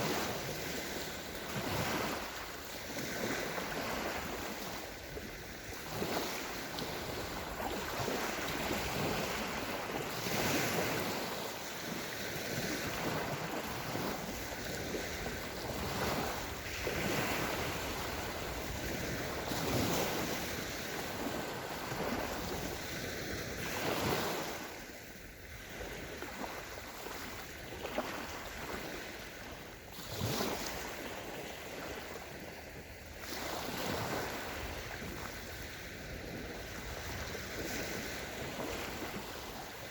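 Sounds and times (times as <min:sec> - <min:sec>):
waves washing up shore: 0:00.0 - 0:39.9
wind buffeting microphone: 0:00.0 - 0:39.9.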